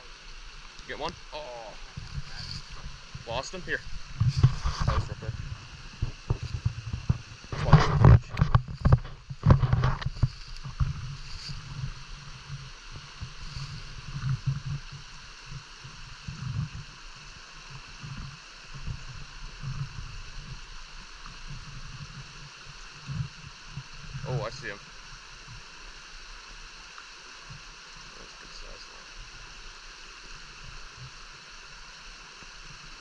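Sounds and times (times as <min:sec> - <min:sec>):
brook water running: 0:00.0 - 0:33.0.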